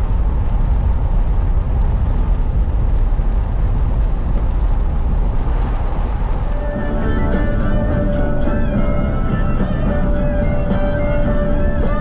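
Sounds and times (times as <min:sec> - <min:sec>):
vehicle road noise: 0:00.0 - 0:12.0
wind buffeting microphone: 0:00.0 - 0:12.0.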